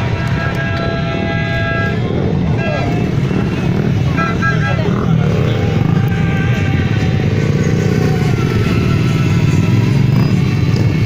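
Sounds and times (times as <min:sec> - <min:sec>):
motorcycle engines passing: 0:00.0 - 0:11.0.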